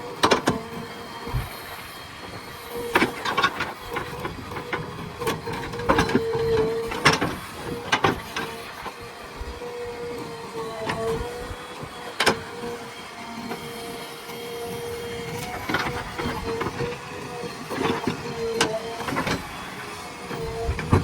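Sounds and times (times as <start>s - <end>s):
backhoe engine whining: 0.0s - 21.0s.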